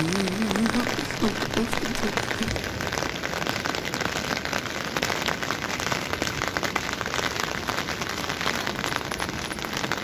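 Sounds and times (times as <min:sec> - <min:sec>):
heavy rain on concrete and water: 0:00.0 - 0:10.0.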